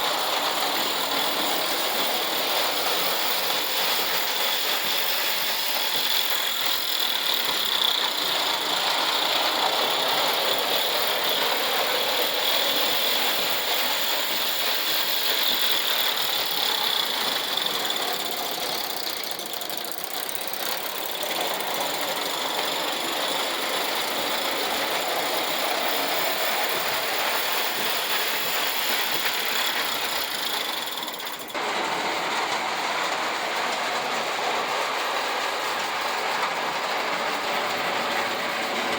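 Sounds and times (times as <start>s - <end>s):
toy train whirring and rattling: 0.0s - 38.9s.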